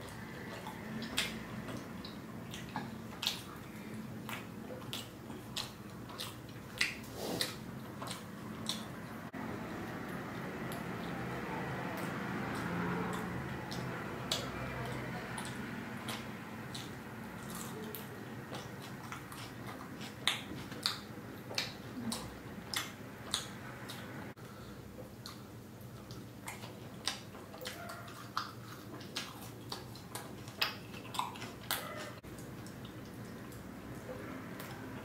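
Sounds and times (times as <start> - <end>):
wet chewing and lip smacks: 0.0 - 9.4, 10.0 - 24.2, 25.0 - 35.0
faint steady hum: 0.0 - 35.0.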